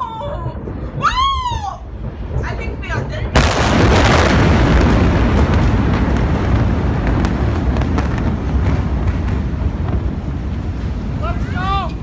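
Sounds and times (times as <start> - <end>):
explosion rumble: 0.0 - 12.0
sharp crackles and pops: 0.0 - 12.0.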